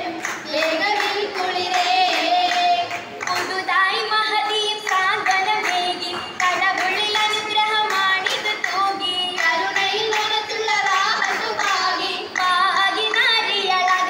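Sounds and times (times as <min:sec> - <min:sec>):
girls singing in chorus: 0:00.0 - 0:14.0
rhythmic hand claps: 0:00.0 - 0:14.0.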